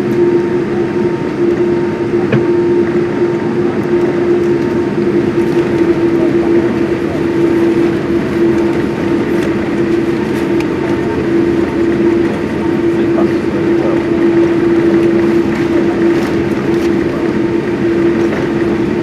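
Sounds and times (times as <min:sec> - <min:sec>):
aircraft cabin engine rumble: 0:00.0 - 0:19.0
constant droning hum: 0:00.0 - 0:19.0.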